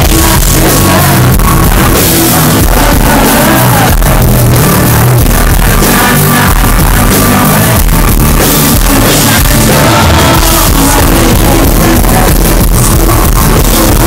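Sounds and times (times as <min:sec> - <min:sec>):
electric guitar: 0:00.0 - 0:14.0
live rock band playing: 0:00.0 - 0:14.0
person singing: 0:00.0 - 0:14.0.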